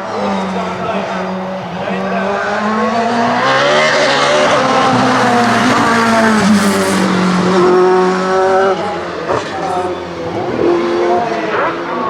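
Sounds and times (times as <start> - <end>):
racing car engine at full throttle: 0.0 - 12.0.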